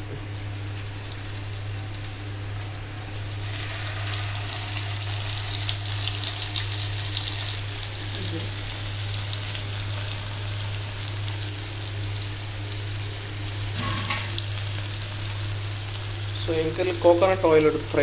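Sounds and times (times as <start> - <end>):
constant low hum: 0.0 - 18.0
fish sizzling in oil: 0.2 - 18.0.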